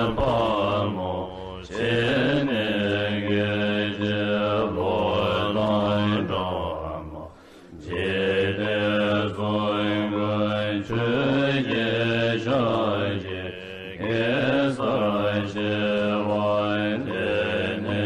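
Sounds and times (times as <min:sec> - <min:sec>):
person chanting a mantra: 0:00.0 - 0:18.0.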